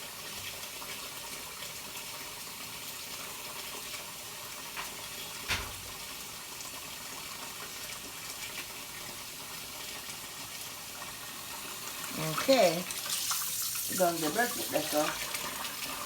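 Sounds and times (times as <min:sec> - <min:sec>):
water running from tap into sink: 0:00.0 - 0:16.0.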